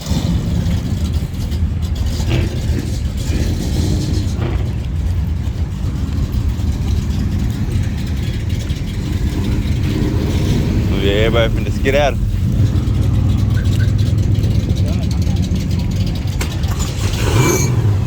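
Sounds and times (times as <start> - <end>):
car engine exhaust rumble: 0.0 - 18.0.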